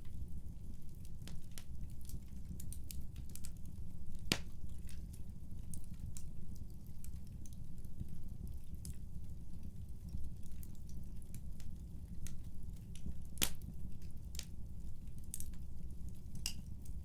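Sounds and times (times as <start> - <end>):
fire low rumble: 0.0 - 17.0
wood fire crackling and popping: 0.0 - 17.0.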